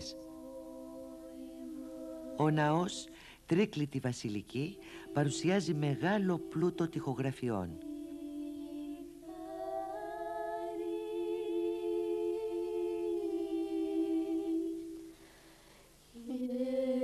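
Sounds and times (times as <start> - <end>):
unaccompanied voices singing: 0.0 - 15.2, 16.1 - 17.0.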